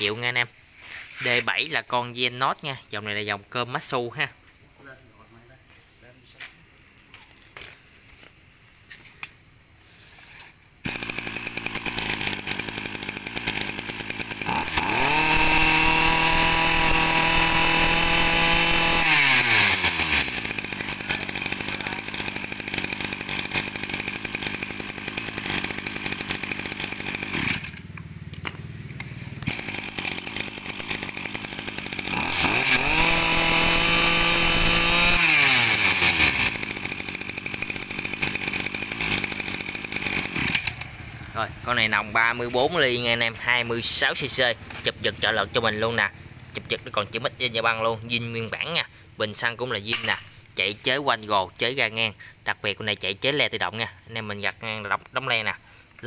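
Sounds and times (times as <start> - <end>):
brush cutter engine idling and revving: 0.0 - 3.8, 10.1 - 53.7.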